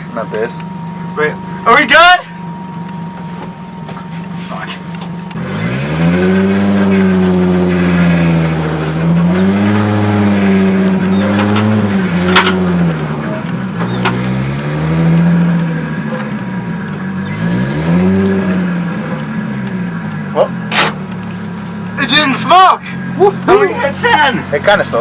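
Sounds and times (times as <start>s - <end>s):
turbocharged car engine revving: 0.0s - 25.0s.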